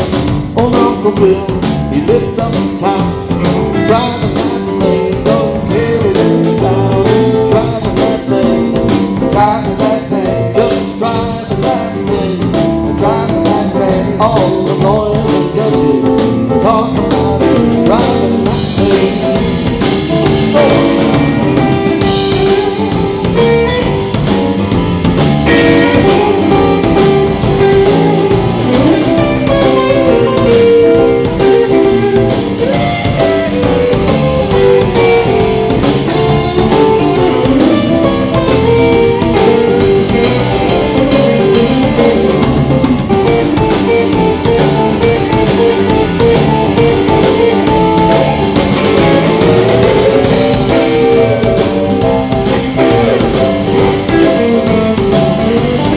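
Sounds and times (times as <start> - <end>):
live roots band playing: 0.0 - 55.9
person singing: 0.3 - 24.0, 25.4 - 55.9.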